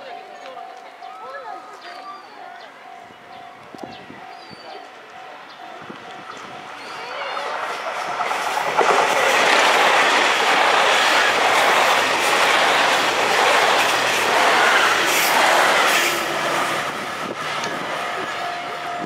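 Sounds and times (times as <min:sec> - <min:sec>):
train passing at speed: 0:02.1 - 0:19.0.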